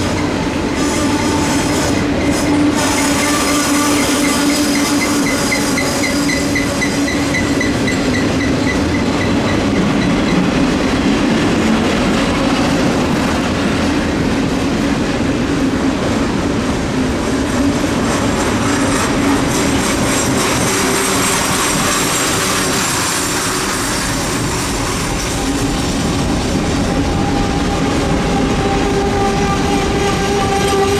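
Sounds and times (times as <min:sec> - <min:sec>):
freight train wheels rumbling on rail: 0:00.0 - 0:30.9.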